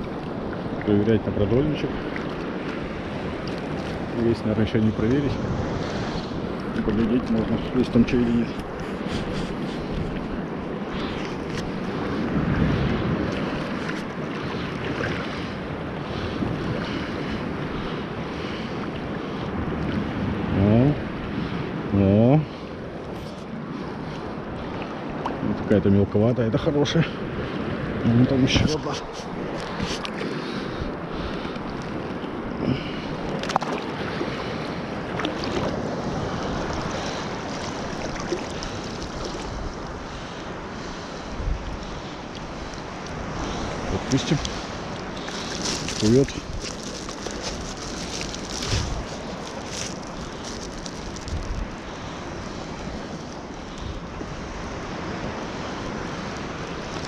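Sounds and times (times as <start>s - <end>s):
wind on microphone: 0.0s - 22.5s, 27.3s - 57.0s
sea surf washing on shore: 0.0s - 57.0s.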